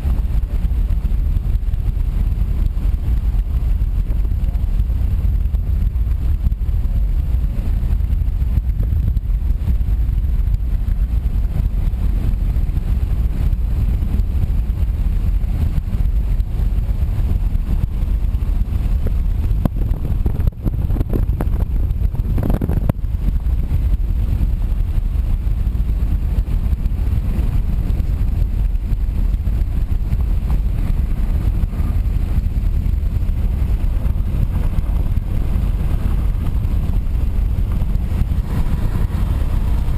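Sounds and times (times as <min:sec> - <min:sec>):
car driving at road speed: 0:00.0 - 0:39.9.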